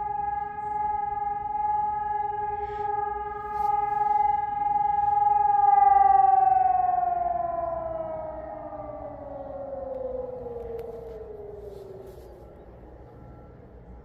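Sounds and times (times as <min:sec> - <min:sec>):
civil defence siren falling in pitch: 0:00.0 - 0:14.0.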